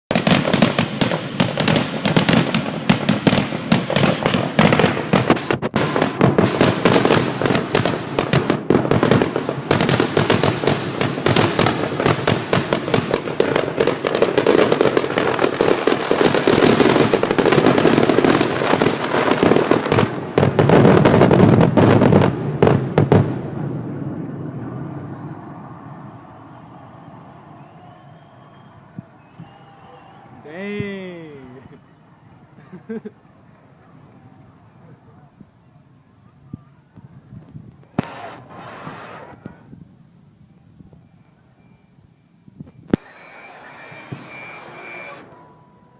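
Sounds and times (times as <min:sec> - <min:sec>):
fireworks bangs and crackles: 0:00.1 - 0:35.6, 0:36.5 - 0:41.2, 0:42.5 - 0:45.9.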